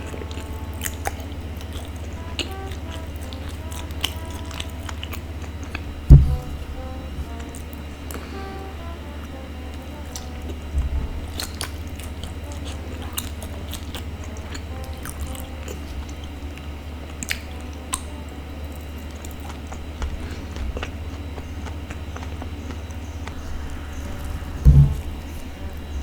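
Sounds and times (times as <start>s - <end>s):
chewing sticky food: 0.0s - 26.0s.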